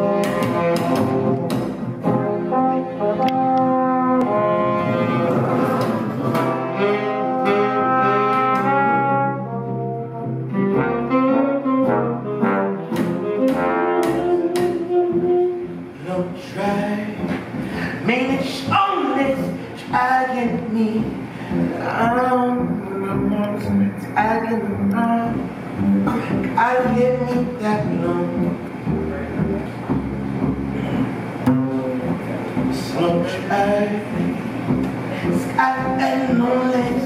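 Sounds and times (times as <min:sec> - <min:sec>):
jazz band playing: 0:00.0 - 0:37.0
trombone and saxophone melody: 0:00.0 - 0:37.0.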